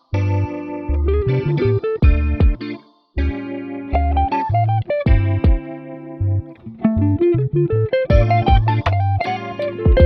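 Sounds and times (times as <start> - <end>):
electric guitar with effects: 0.0 - 10.0
bass line: 0.1 - 2.6, 3.2 - 5.6, 6.2 - 10.0.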